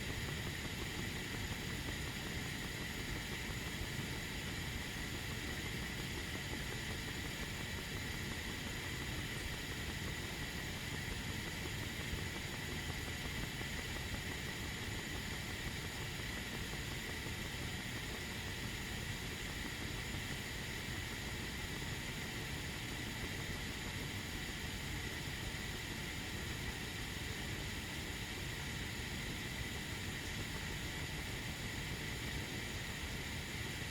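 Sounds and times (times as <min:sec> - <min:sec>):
faint constant tone: 0:00.0 - 0:33.9
kettle hissing and rumbling: 0:00.0 - 0:33.9.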